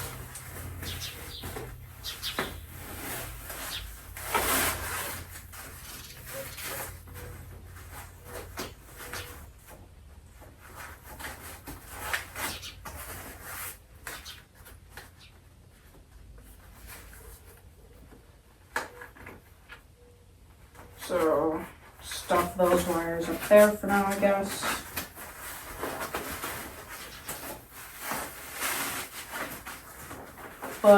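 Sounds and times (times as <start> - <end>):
rubbing and rustling: 0.0 - 20.0, 20.6 - 30.9.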